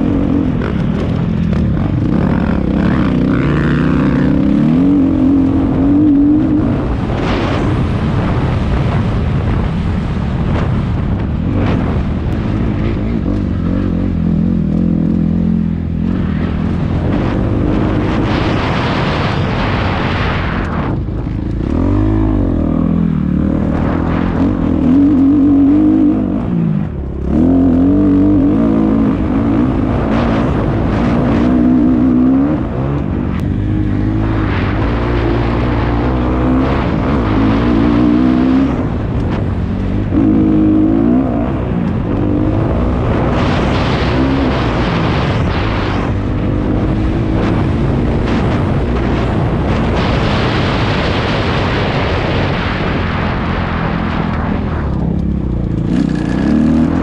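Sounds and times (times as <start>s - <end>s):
dirt bike engine revving: 0.0s - 8.9s, 11.4s - 54.2s, 55.7s - 57.0s.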